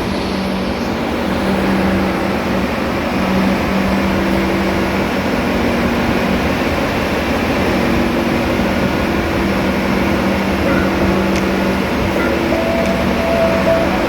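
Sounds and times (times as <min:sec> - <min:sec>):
engine room machinery din: 0:00.0 - 0:14.0.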